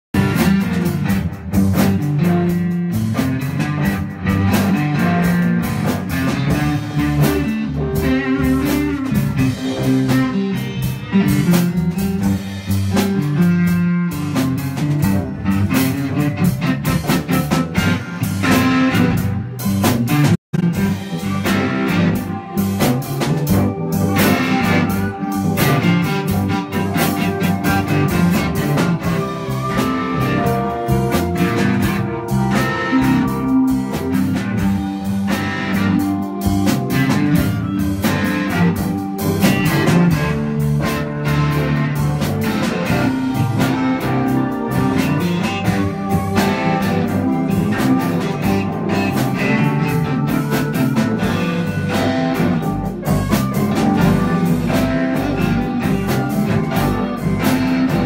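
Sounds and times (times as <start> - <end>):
drum kit: 0.0 - 58.0
electric guitars: 0.1 - 58.0.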